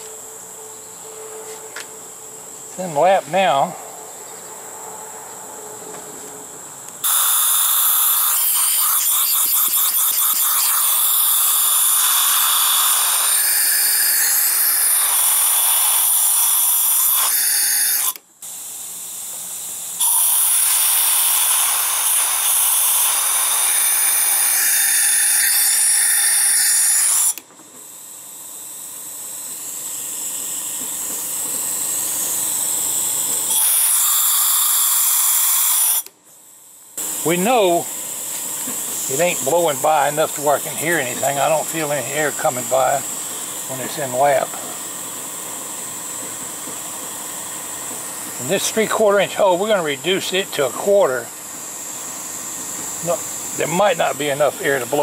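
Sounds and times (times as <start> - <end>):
compressed air hissing: 7.0 - 25.8, 26.9 - 55.0.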